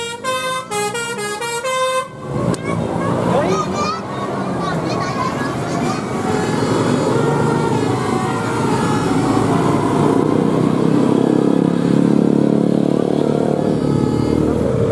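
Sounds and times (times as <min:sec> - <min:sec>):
vehicles passing by: 0:00.0 - 0:14.9.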